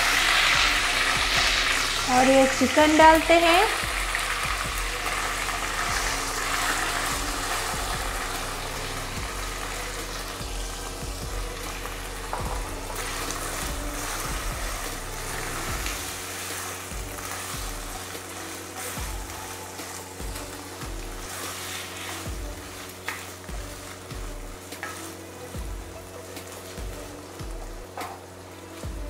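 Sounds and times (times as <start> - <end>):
spatula scraping wok: 0.0 - 28.8
chicken sizzling in oil: 0.0 - 29.0
soft background music: 0.0 - 29.0.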